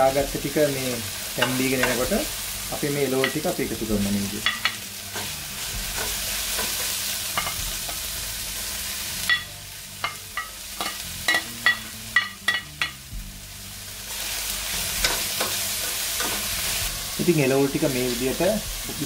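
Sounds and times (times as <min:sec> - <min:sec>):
vegetables sizzling in pan: 0:00.0 - 0:19.0.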